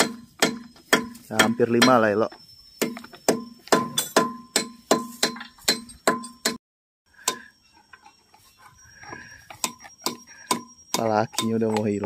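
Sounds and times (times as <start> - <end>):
hand tools tapping on metal: 0.0 - 6.6, 7.2 - 12.0.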